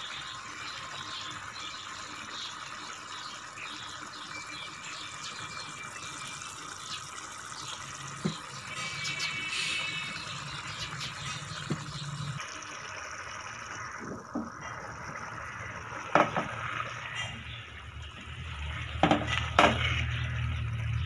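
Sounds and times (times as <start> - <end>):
lentils bubbling in a pot: 0.0 - 21.0.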